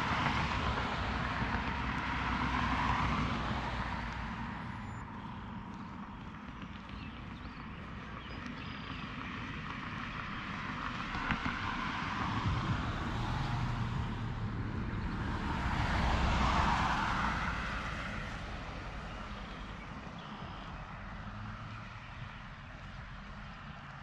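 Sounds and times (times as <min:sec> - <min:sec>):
motor vehicle passing by: 0:00.0 - 0:24.0.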